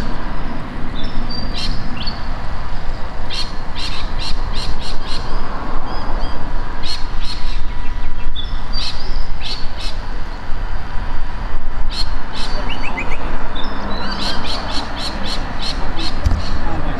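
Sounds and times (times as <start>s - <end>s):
birds chirping and squawking: 0.0s - 10.5s, 11.8s - 16.9s.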